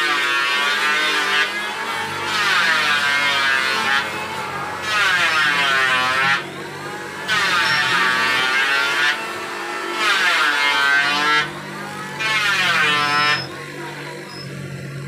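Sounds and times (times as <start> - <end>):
chisel whining into wood: 0.0 - 15.0
mortising machine motor humming: 0.0 - 15.0.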